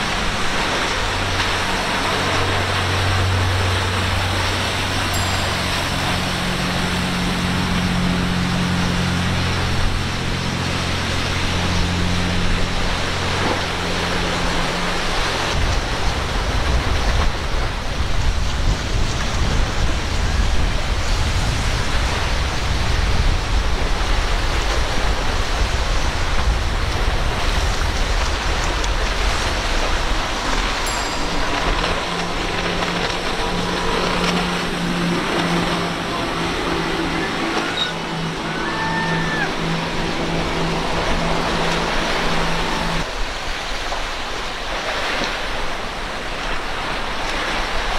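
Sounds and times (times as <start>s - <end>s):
hull spray and water rushing: 0.0s - 47.9s
powerboat engine drone: 0.0s - 47.9s.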